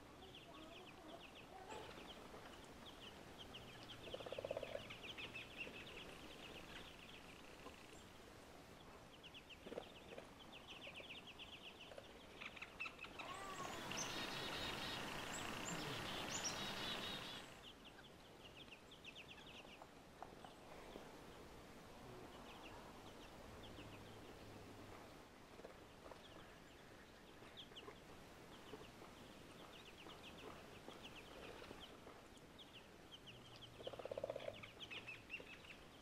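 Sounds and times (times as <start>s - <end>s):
songbirds calling: 0.0s - 36.0s.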